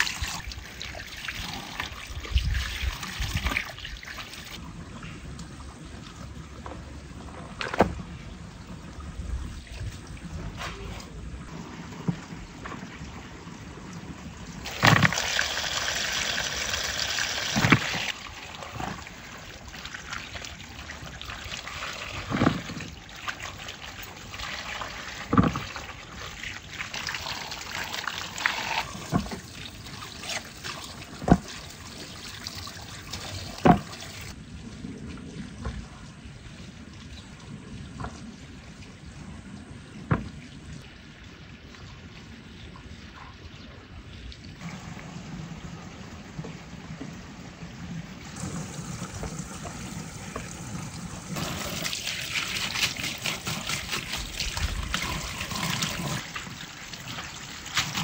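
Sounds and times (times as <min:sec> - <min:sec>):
water pouring and splashing: 0:00.0 - 0:58.0.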